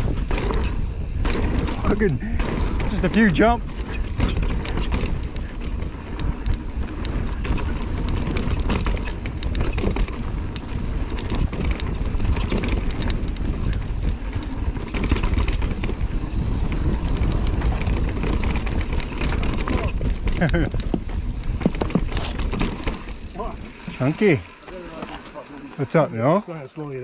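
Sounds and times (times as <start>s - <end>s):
wind on microphone: 0.0s - 23.4s
bike clicks and rattles: 0.0s - 27.0s
bike tyres on dirt: 0.0s - 27.0s.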